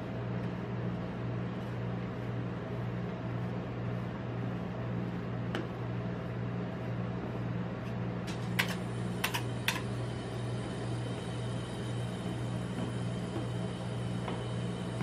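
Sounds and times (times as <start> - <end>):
refrigeration hum: 0.0 - 15.0.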